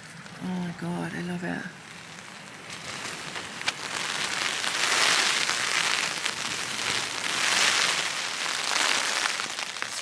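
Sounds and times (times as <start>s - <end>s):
heavy rain on a tarp: 0.0s - 10.0s
wind gusts: 0.0s - 10.0s.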